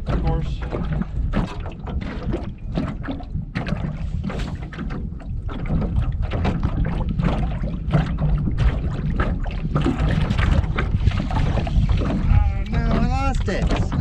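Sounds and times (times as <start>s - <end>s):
water lapping against boat hull: 0.0s - 14.0s
wind buffeting microphone: 0.0s - 14.0s.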